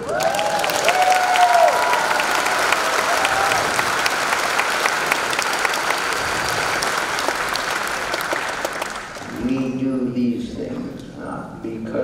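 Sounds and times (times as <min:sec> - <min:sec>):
large audience applauding: 0:00.0 - 0:09.8.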